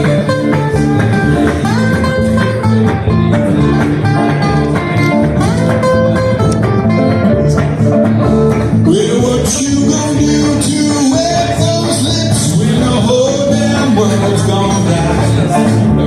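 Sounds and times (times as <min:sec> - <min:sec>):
acoustic guitar lead lines: 0:00.0 - 0:16.0
bass: 0:00.0 - 0:16.0
rhythm guitar: 0:00.0 - 0:16.0.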